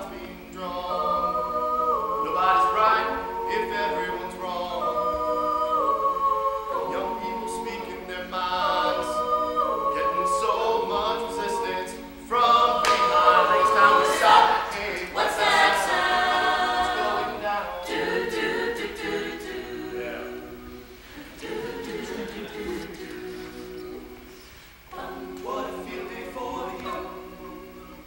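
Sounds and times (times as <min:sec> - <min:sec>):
a cappella group singing harmony: 0:00.0 - 0:28.0.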